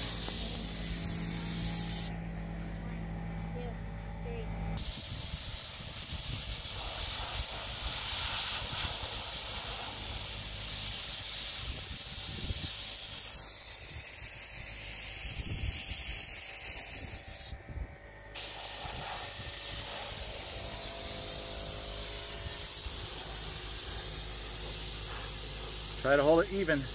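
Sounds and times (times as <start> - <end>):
paint spray gun hissing: 0.0 - 2.1, 4.8 - 17.6, 18.4 - 26.9.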